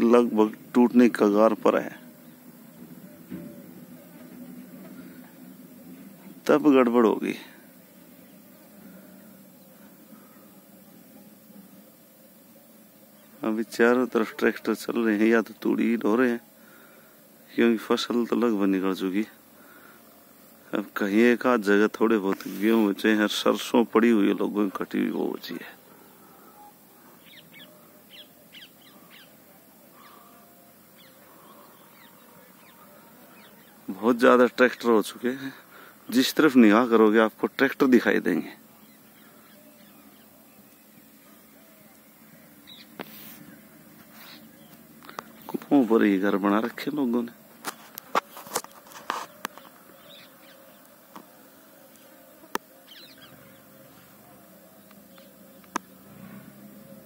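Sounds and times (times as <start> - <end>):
birds chirping: 0.0 - 57.0
faint low hum: 0.0 - 57.0.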